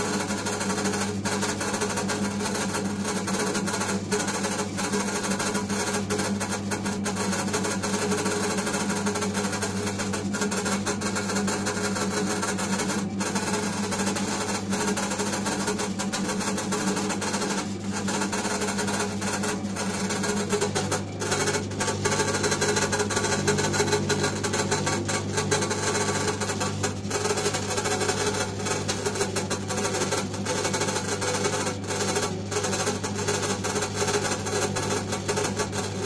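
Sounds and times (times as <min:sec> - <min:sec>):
dough mixer motor humming: 0:00.0 - 0:36.0.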